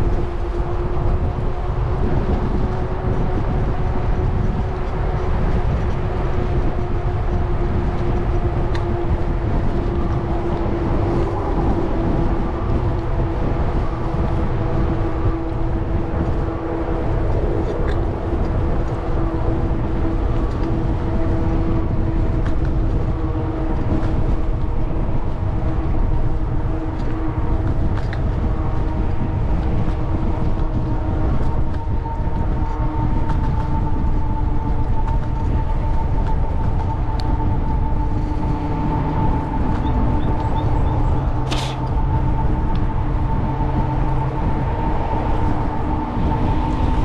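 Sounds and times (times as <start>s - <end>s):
steady multi-tone hum: 0.0s - 47.0s
wind rushing over microphone: 0.0s - 47.0s.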